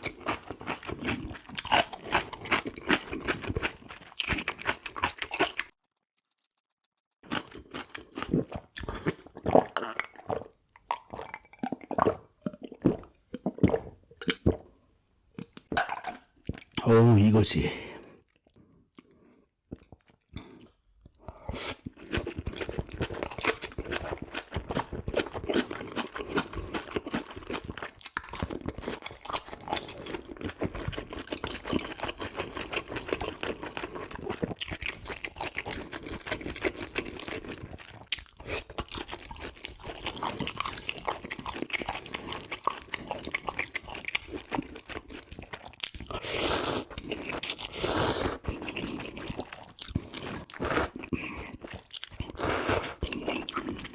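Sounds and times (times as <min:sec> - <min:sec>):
chewing and crunching food: 0:00.0 - 0:14.8, 0:15.4 - 0:16.9, 0:18.0 - 0:53.9.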